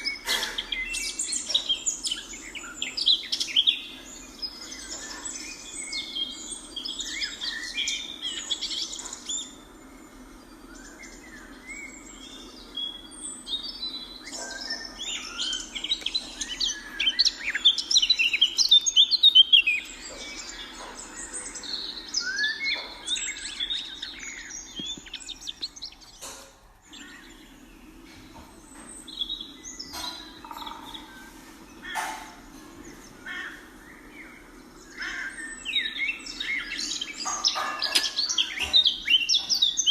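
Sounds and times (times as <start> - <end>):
steady low hum: 0.0 - 37.3
birds chirping: 0.0 - 39.9.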